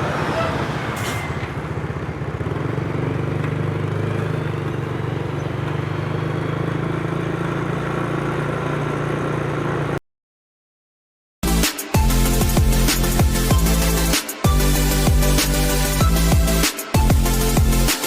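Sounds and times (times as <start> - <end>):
diesel bus engine humming: 0.0 - 10.0, 11.4 - 18.0.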